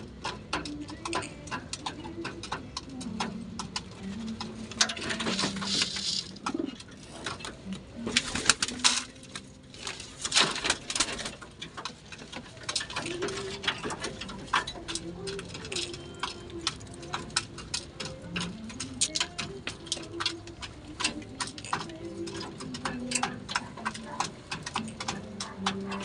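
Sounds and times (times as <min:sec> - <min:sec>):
beaks pecking seed in bowl: 0:00.0 - 0:26.0
pigeon cooing: 0:00.0 - 0:26.0.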